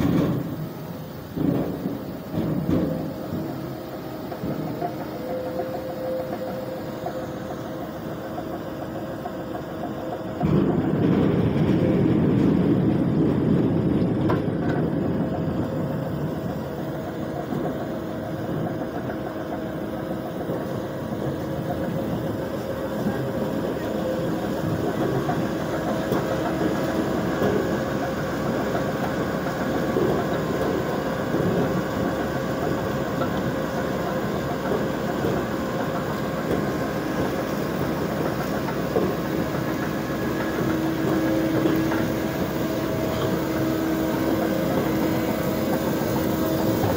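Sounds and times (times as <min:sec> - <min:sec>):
farm machine engine and conveyors humming: 0:00.0 - 0:46.9.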